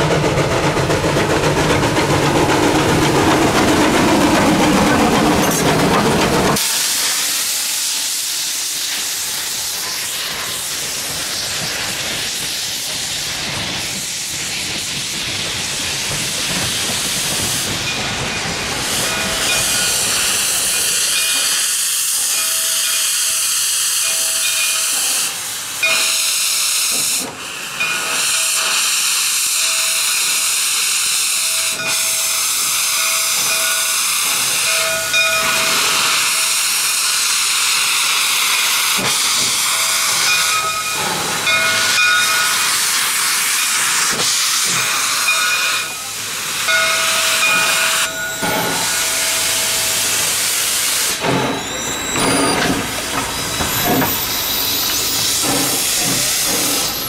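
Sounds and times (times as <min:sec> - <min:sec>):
steam venting hiss: 0:06.6 - 0:57.0.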